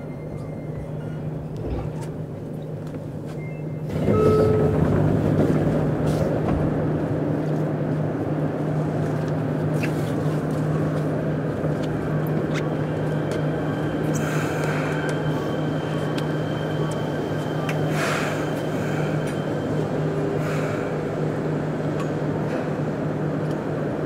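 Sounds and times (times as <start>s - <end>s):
train cabin hum: 0.0s - 24.0s.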